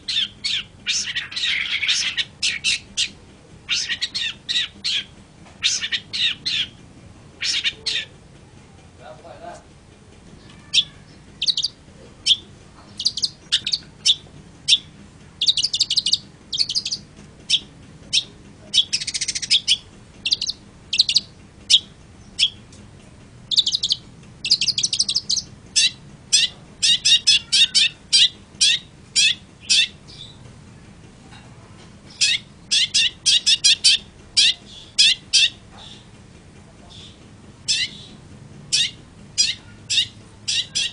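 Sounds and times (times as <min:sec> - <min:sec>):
shrike chirps and trills: 0:00.0 - 0:06.8, 0:07.4 - 0:08.2, 0:10.4 - 0:22.7, 0:23.5 - 0:30.4, 0:32.1 - 0:36.1, 0:36.9 - 0:40.9.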